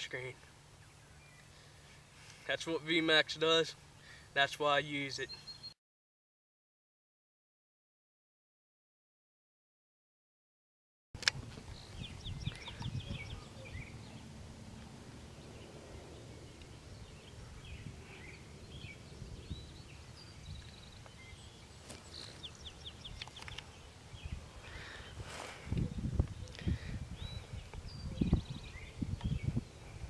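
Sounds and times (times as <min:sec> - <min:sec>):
songbirds chirping: 0:00.0 - 0:05.8, 0:11.4 - 0:30.0.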